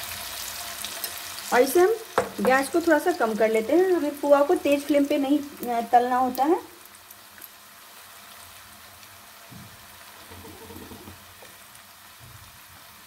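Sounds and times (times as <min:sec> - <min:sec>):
batter sizzling in oil: 0:00.0 - 0:13.0.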